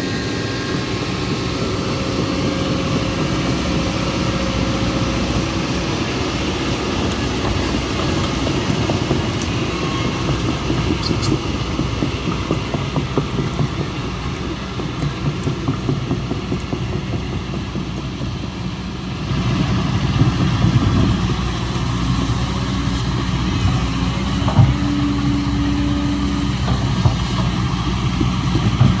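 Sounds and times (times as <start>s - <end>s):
diesel engine running: 0.0s - 29.0s
steady whine: 0.0s - 29.0s.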